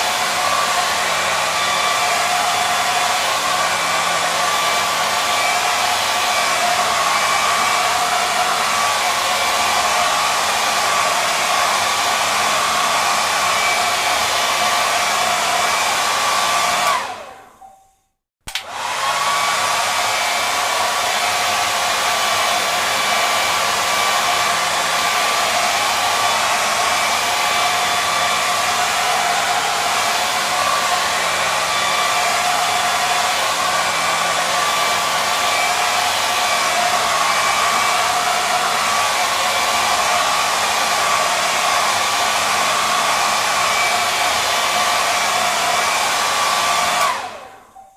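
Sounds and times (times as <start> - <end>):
hair dryer blowing: 0.0 - 17.7, 18.5 - 47.9.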